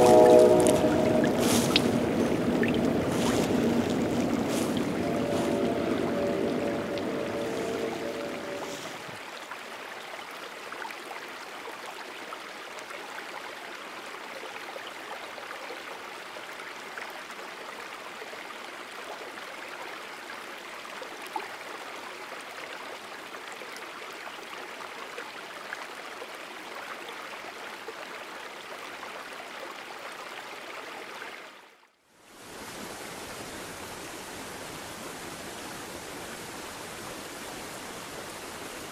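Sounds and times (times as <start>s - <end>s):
creek water running: 0.0s - 38.9s.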